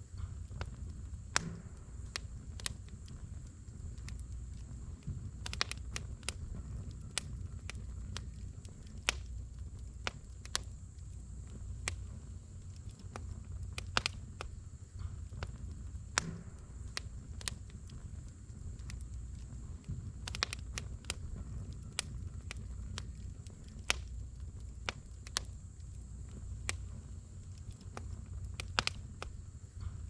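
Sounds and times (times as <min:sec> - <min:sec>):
burning wood crackling: 0:00.0 - 0:30.0
flame rumbling: 0:00.0 - 0:30.0.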